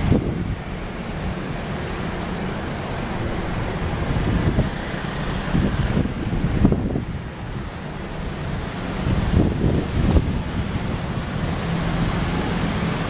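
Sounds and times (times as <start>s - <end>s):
distant train rumble: 0.0s - 13.0s
wind gusts: 0.0s - 13.0s.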